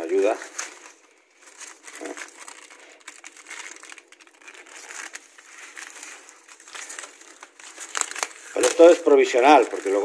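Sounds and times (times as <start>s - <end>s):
foil tape crinkling: 0.0s - 10.0s.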